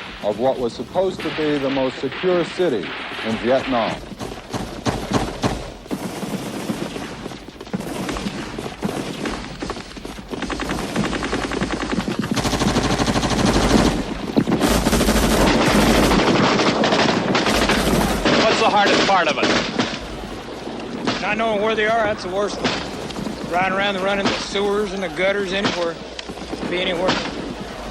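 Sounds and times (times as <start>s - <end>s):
automatic gunfire: 1.0s - 20.4s, 21.0s - 27.9s.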